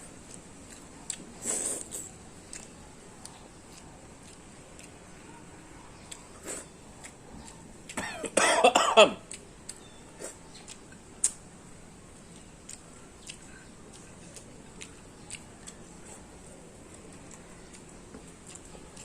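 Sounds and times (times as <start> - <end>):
person chewing food: 0.1 - 5.3, 5.9 - 19.0.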